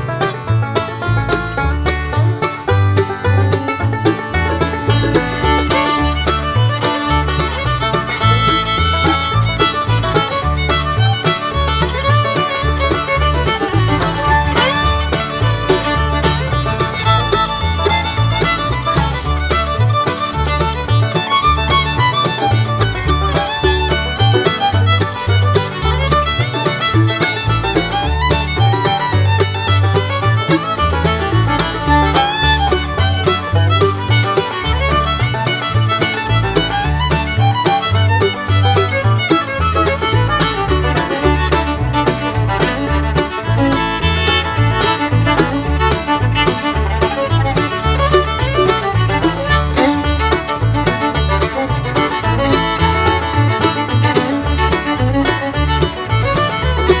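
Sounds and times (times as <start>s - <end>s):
bluegrass fiddle tune: 0.0s - 57.0s
steady bass beat: 0.0s - 57.0s.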